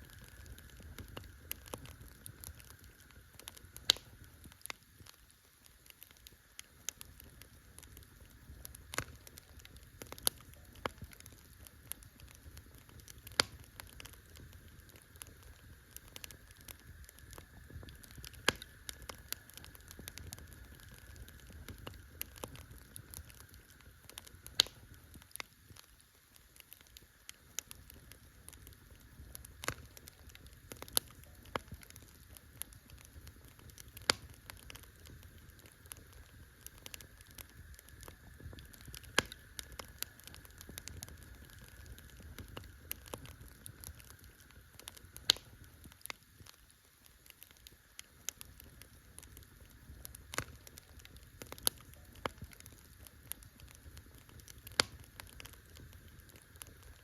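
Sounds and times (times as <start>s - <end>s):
campfire crackling: 0.0s - 57.0s
sharp fire snaps: 0.0s - 57.0s.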